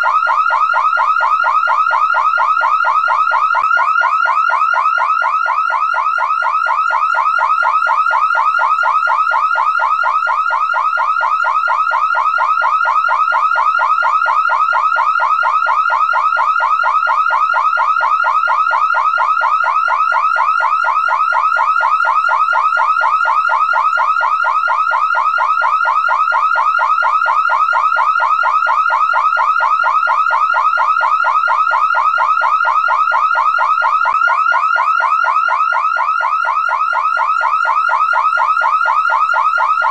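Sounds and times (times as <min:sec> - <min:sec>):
car alarm electronic chirps: 0:00.0 - 0:39.9.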